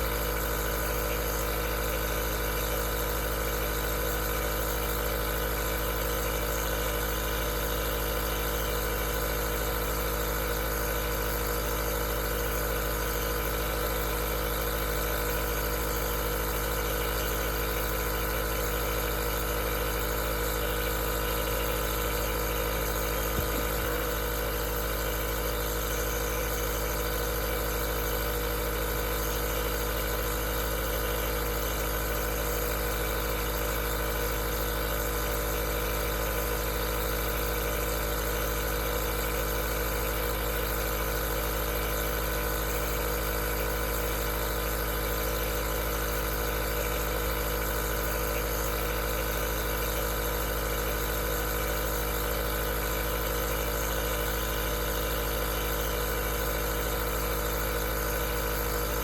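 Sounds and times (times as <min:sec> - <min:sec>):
small compressor humming: 0:00.0 - 0:59.0.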